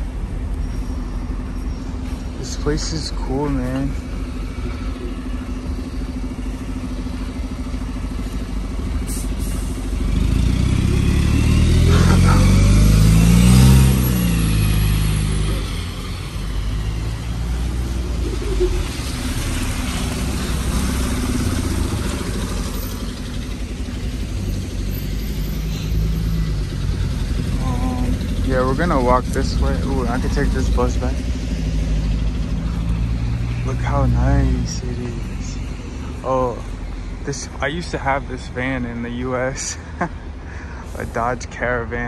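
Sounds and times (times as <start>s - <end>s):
low traffic rumble: 0.0s - 42.0s
vehicle driving past: 2.1s - 39.0s.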